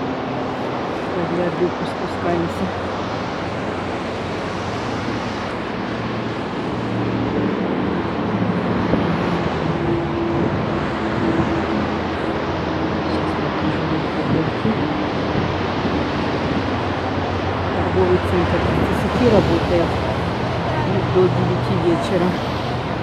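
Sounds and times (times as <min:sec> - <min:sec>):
engine hum: 0:00.0 - 0:23.0
road traffic of passing cars: 0:00.0 - 0:23.0.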